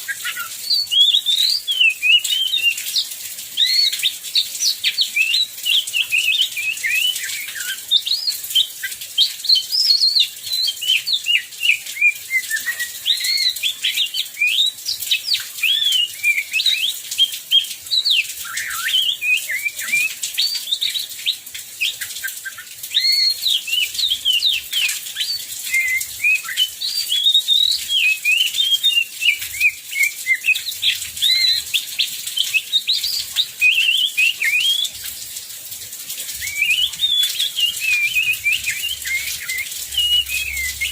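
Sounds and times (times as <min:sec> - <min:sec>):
magpie-robin singing: 0:00.0 - 0:35.0, 0:36.4 - 0:40.9
heavy rain hiss: 0:00.0 - 0:40.9.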